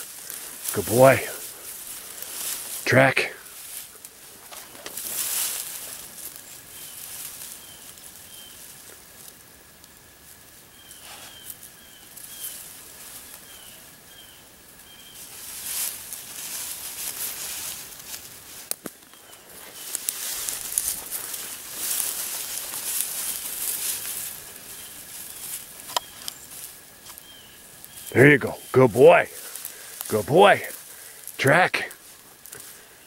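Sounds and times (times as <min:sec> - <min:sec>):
grass rustling and swishing: 0:00.0 - 0:33.0.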